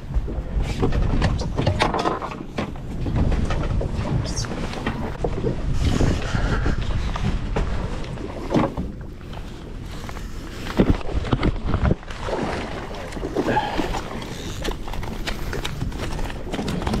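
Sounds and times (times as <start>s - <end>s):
boat engine rumble: 0.0s - 17.0s
wind on microphone: 0.0s - 17.0s.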